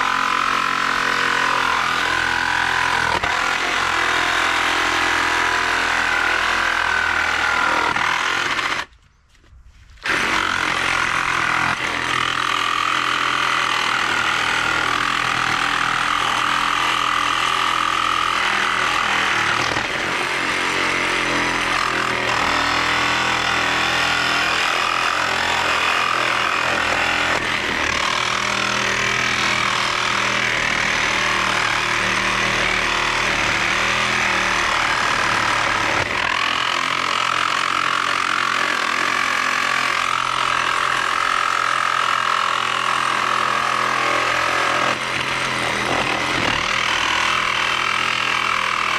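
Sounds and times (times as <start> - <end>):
reciprocating saw cutting metal: 0.0 - 8.9, 10.0 - 48.9.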